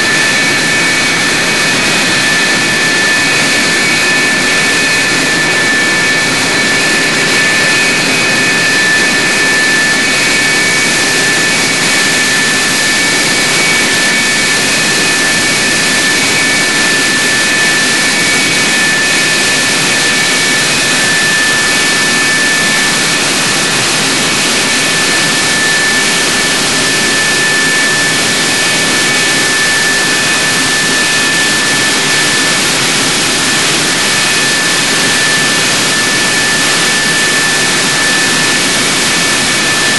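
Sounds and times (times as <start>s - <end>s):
jet engine whine idling: 0.0s - 39.9s.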